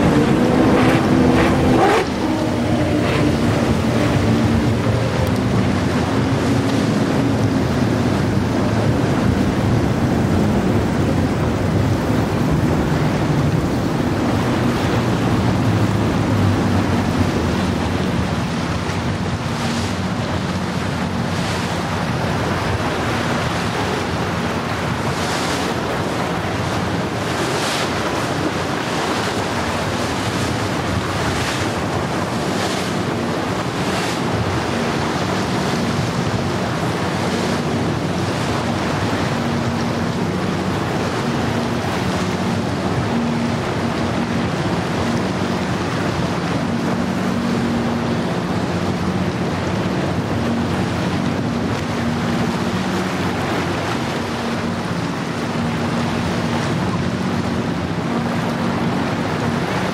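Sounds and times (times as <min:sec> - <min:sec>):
boat engine drone: 0:00.0 - 0:59.9
waves and hull wash rushing: 0:00.0 - 0:59.9
wind noise on microphone: 0:00.0 - 0:59.9.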